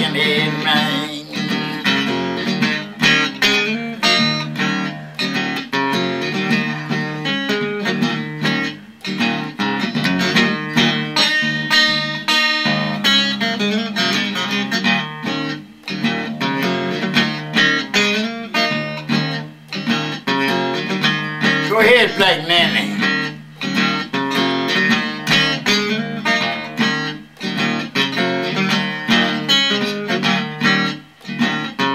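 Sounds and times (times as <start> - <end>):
electric blues guitar riff: 0.0 - 31.9.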